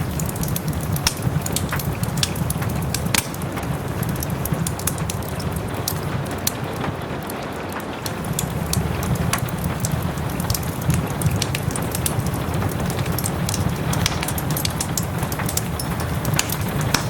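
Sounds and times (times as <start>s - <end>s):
soft rain hissing: 0.0s - 17.0s
wood fire crackling: 0.0s - 17.0s.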